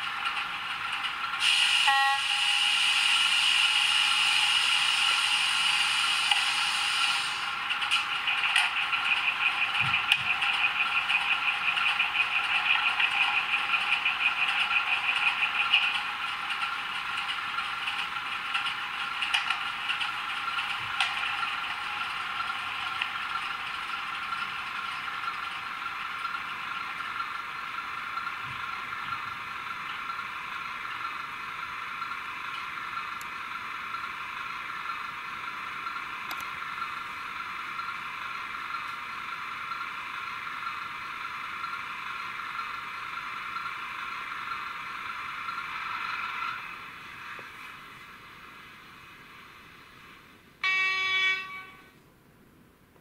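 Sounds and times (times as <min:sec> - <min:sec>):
diesel engine sound from tiny speaker: 0:00.0 - 0:52.0.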